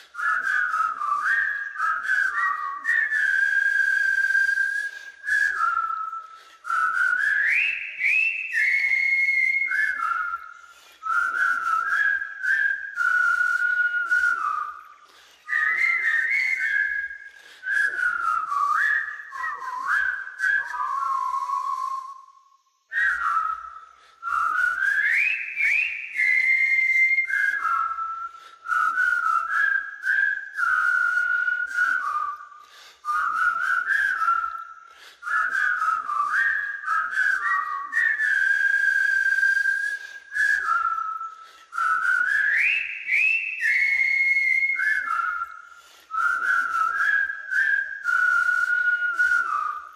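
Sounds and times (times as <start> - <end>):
person whistling a tune: 0.0 - 49.9.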